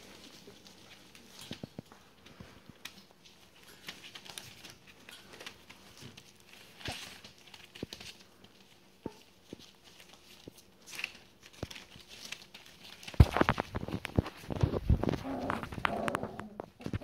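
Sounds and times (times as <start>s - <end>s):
newspaper rustling and crinkling: 0.0s - 17.0s.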